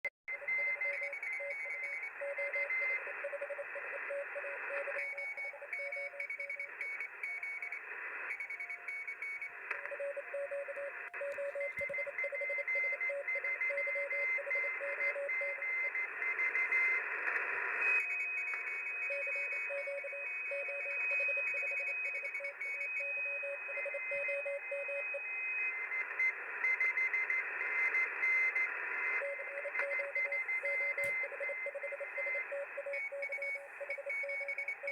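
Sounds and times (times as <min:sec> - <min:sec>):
morse code beeps: 0:00.3 - 0:17.0, 0:17.9 - 0:34.9.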